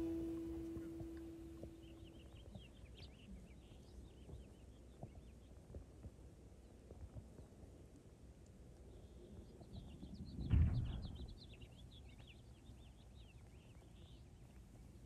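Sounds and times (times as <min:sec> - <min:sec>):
small birds chirping: 0:00.0 - 0:07.6, 0:08.4 - 0:15.0.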